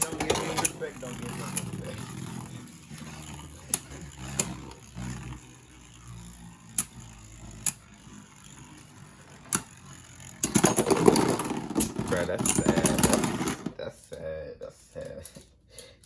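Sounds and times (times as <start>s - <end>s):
spinning tops clicking together: 0.0s - 13.3s.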